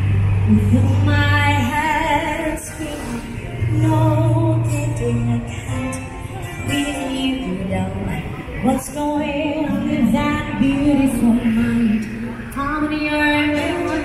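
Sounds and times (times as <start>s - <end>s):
music: 0.0s - 14.0s
woman singing long notes: 0.5s - 14.0s.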